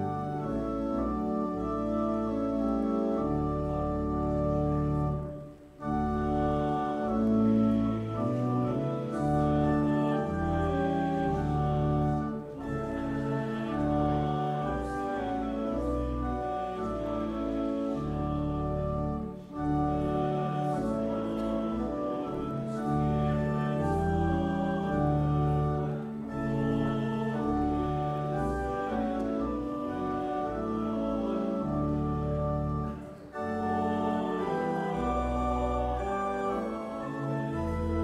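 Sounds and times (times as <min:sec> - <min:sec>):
church organ playing a hymn: 0:00.0 - 0:38.0.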